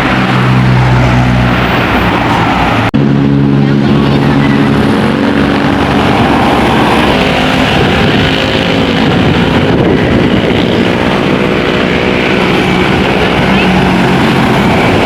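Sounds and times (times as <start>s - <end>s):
bus engine passing: 0.0s - 15.0s
tyre and road noise: 0.0s - 15.0s.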